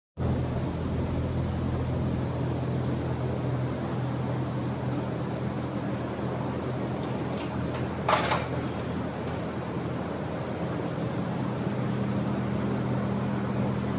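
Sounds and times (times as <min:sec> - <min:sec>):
low mechanical hum: 0:00.2 - 0:13.9.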